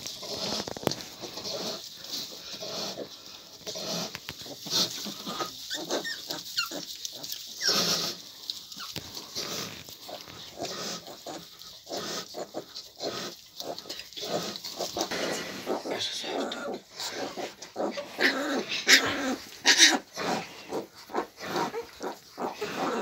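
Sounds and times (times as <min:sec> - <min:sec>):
piglets squeaking and grunting: 0:00.0 - 0:23.0.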